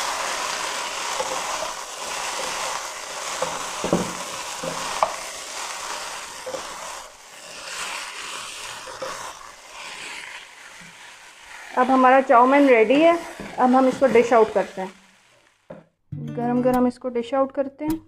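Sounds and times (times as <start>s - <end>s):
noodles sizzling in a wok: 0.0s - 15.7s
spatulas knocking and scraping pan: 0.7s - 15.9s.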